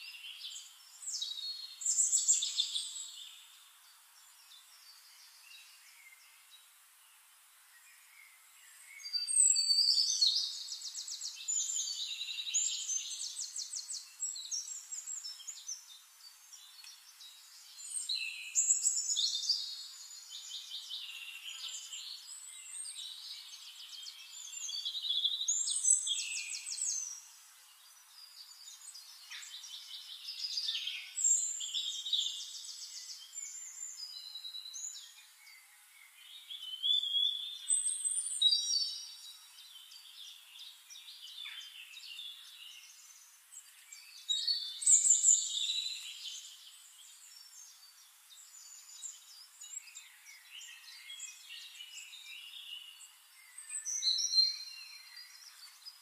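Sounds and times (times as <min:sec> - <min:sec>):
small birds singing: 0:00.0 - 0:56.0.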